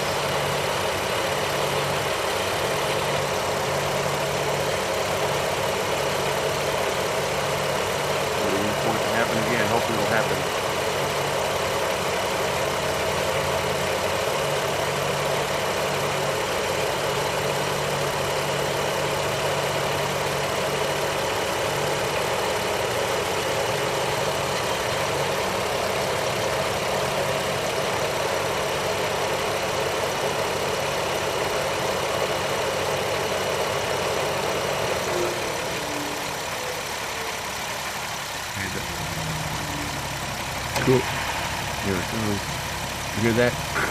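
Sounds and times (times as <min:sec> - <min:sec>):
car engine idling: 0:00.0 - 0:43.9
radiator cooling fan running: 0:00.0 - 0:43.9.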